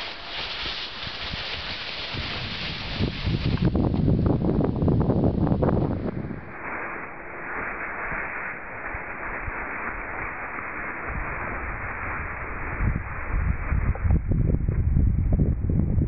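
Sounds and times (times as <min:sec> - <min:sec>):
wind hissing: 0:00.0 - 0:15.7
wind buffeting microphone: 0:00.0 - 0:16.0.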